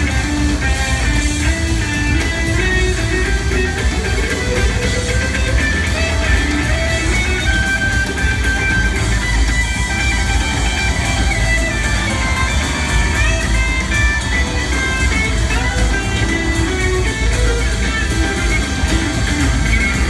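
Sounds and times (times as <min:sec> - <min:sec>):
electric guitar lead line: 0:00.0 - 0:20.0
live rock band jamming: 0:00.0 - 0:20.0.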